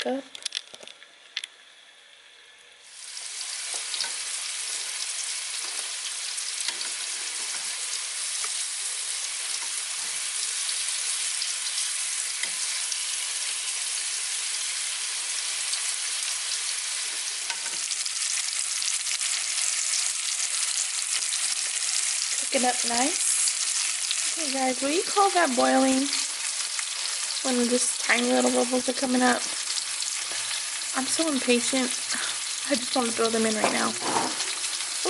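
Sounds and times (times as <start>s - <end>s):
chicken sizzling in hot oil: 2.8s - 35.0s.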